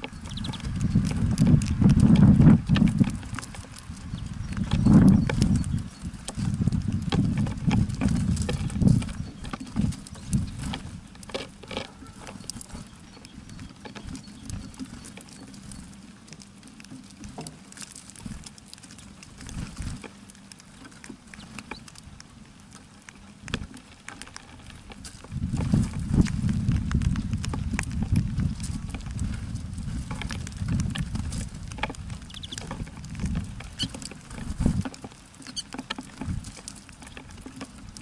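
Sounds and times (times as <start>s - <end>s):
birds pecking on wooden feeder: 0.0s - 38.0s.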